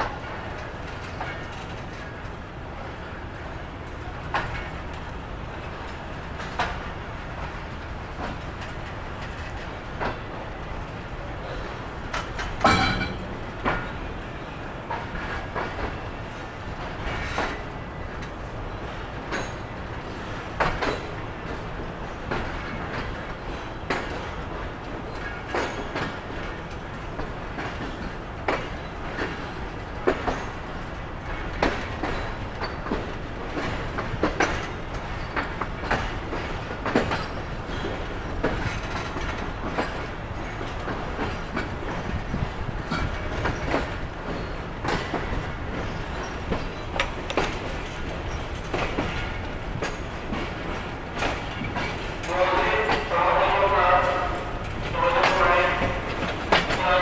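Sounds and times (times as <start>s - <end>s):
train wheels rumbling on track: 0.0s - 57.0s
wheels clacking over rail joints: 0.0s - 57.0s.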